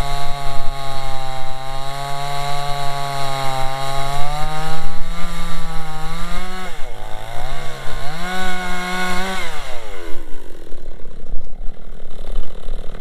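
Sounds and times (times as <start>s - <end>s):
chainsaw cutting logs: 0.0s - 13.0s.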